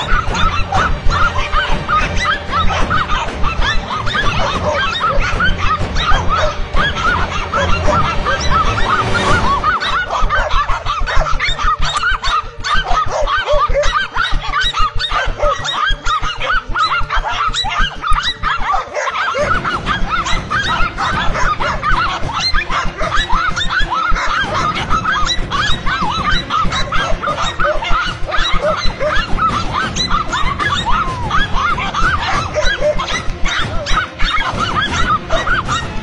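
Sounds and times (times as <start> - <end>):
animals squealing in a fight: 0.0 - 36.0.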